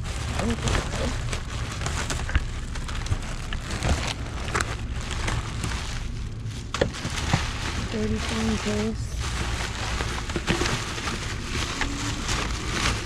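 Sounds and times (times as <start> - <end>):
low rumble: 0.0 - 13.0
plastic bags rustling: 0.0 - 13.0.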